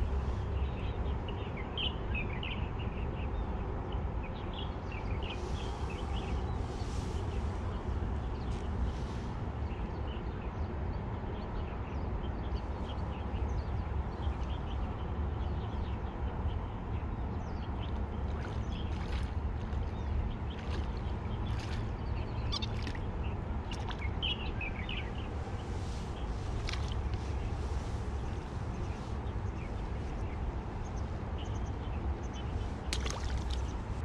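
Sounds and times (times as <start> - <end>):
steady low rumble: 4.5 - 34.0.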